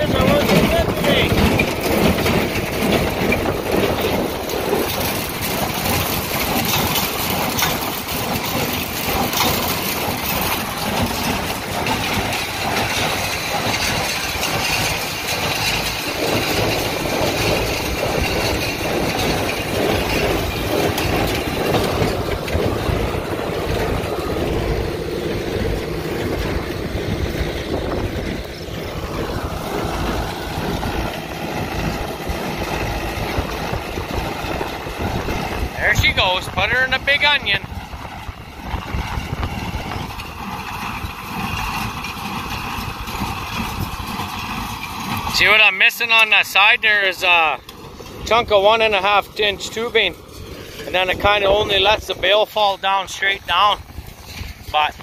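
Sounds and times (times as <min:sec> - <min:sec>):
baler machinery working: 0:00.0 - 0:55.0
tractor engine running: 0:00.0 - 0:55.0.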